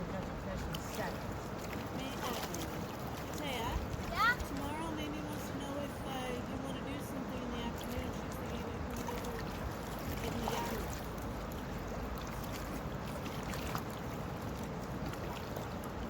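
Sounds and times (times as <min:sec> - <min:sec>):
small river rushing: 0:00.0 - 0:16.0.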